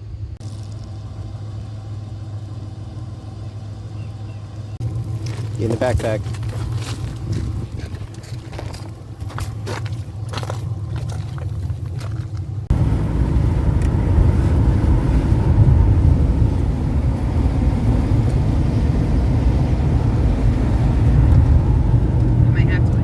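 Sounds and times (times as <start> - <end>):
car road noise from inside: 0.0 - 23.0
low hum: 0.0 - 23.0.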